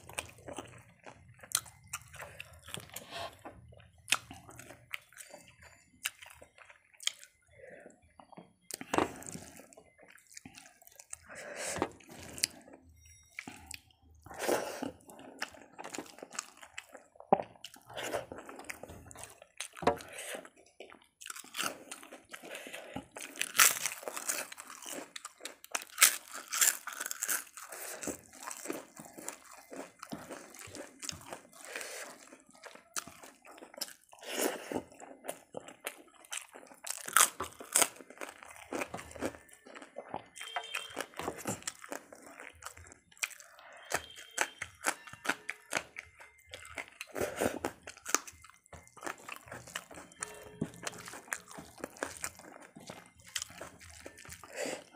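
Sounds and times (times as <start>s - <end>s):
crunchy chewing: 0.0s - 54.9s.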